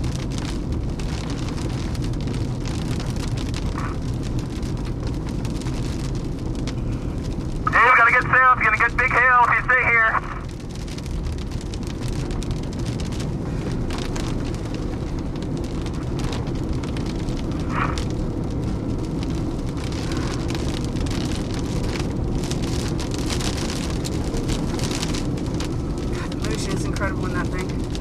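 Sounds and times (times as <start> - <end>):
rain on car: 0.0 - 28.0
wind: 0.0 - 28.0.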